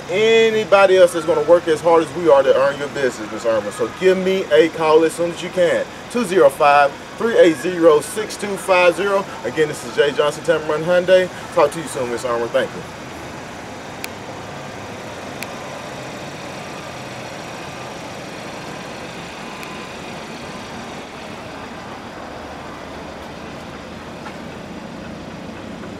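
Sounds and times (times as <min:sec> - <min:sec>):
motor vehicle noise: 0:00.0 - 0:25.9.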